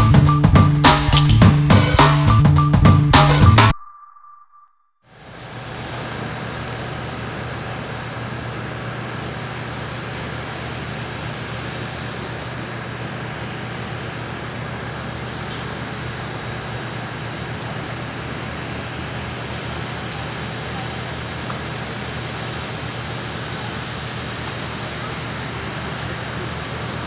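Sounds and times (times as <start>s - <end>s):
jet engines running: 5.3s - 27.0s.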